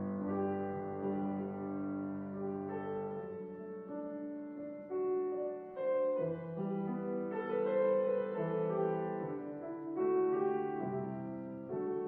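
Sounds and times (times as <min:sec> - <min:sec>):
slow piano instrumental music: 0:00.0 - 0:12.0.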